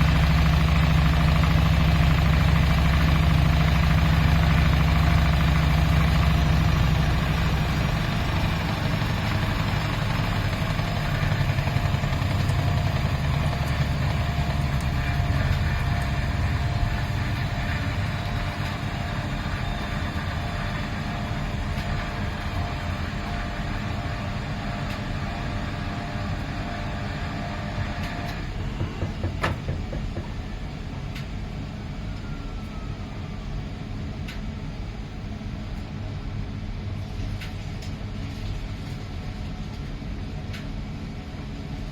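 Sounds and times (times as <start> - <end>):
washing machine rumbling: 0.0 - 36.0.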